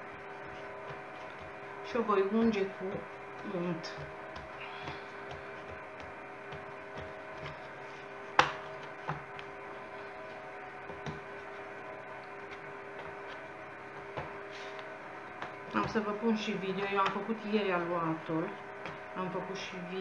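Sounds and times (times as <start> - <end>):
hands kneading dough: 0.0 - 20.0
steady hum: 0.0 - 20.0.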